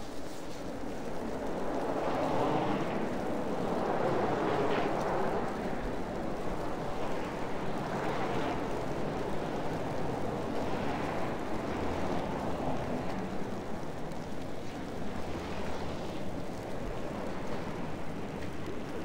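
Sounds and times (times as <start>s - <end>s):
traffic on slushy road: 0.0s - 19.0s.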